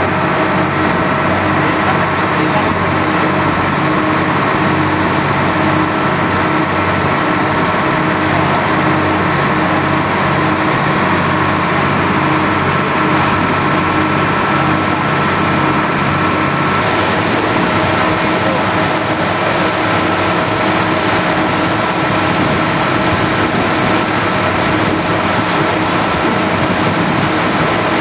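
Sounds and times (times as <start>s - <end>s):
motorboat engine droning: 0.0s - 28.0s
water rushing along hull: 0.0s - 28.0s.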